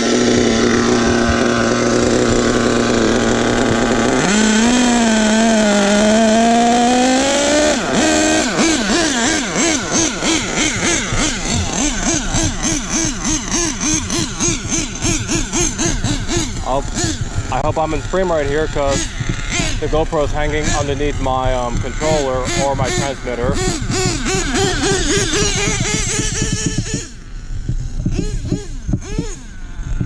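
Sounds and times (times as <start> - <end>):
nitro engine revving: 0.0 - 30.0.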